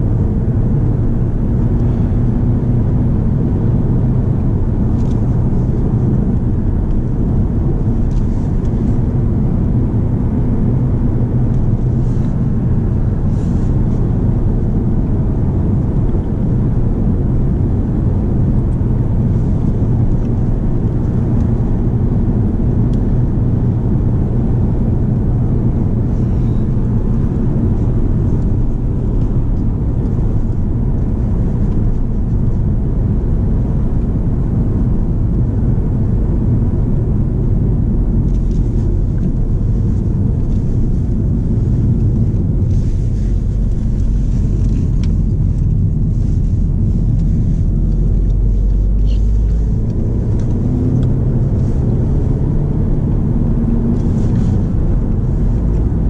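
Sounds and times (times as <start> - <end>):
car engine drone: 0.0 - 56.0
tyre and road rumble: 0.0 - 56.0.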